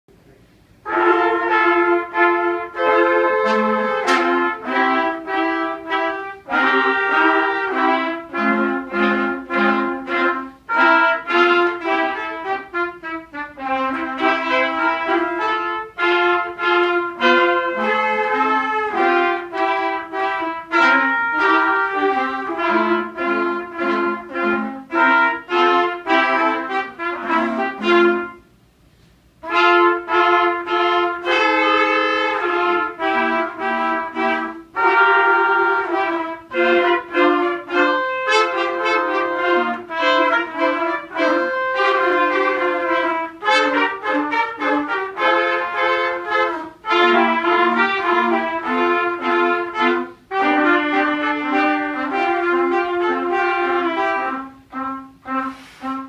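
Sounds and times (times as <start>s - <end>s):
trumpet ensemble playing: 0.2s - 56.0s.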